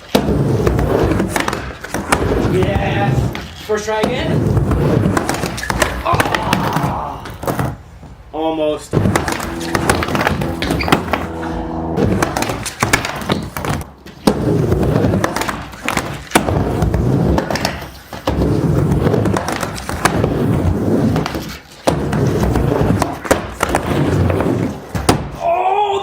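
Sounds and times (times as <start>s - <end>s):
skateboard clacks: 0.0s - 7.8s, 8.9s - 11.3s, 12.0s - 25.4s
skateboard wheels rumbling: 0.0s - 8.3s, 8.9s - 25.2s.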